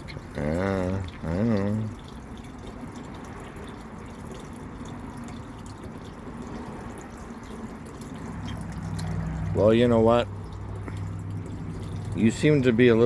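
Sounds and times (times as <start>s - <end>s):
water drips: 0.0s - 13.0s
water trickling: 0.0s - 13.0s.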